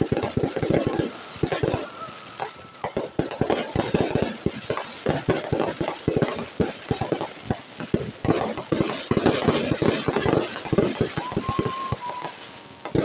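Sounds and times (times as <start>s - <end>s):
fireworks crackling: 0.0s - 13.0s
fireworks popping and banging: 0.0s - 13.0s.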